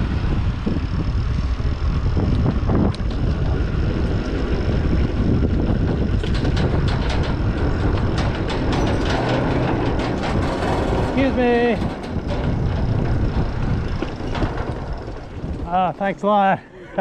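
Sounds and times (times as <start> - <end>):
tyres on a dirt trail: 0.0 - 17.0
wind buffeting microphone: 0.0 - 17.0
bike clicks and rattles: 0.4 - 17.0.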